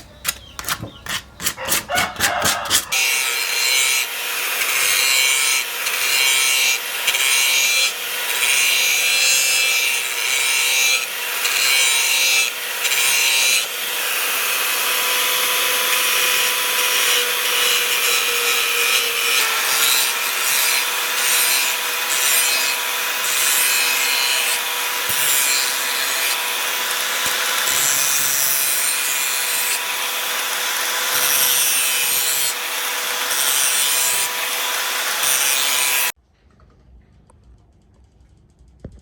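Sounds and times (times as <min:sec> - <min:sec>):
power tool motor hum: 0:00.3 - 0:36.2.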